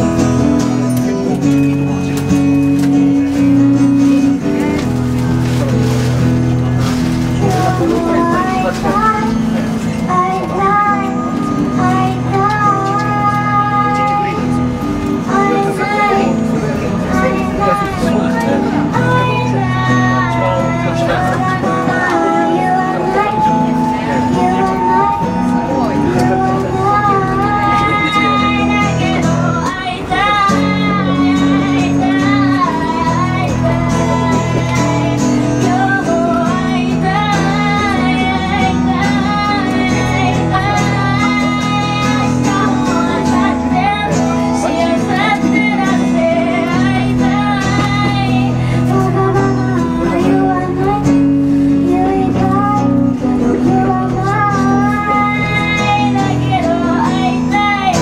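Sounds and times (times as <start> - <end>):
woman singing: 0.0 - 5.0, 6.9 - 58.0
acoustic guitar strumming: 0.0 - 58.0.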